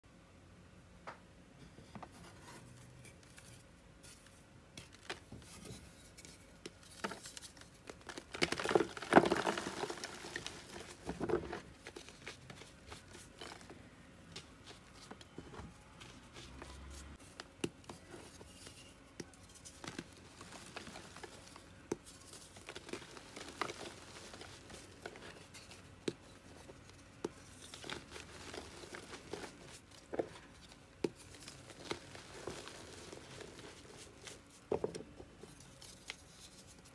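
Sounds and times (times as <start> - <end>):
chalk crumbling and crunching: 2.2 - 36.9.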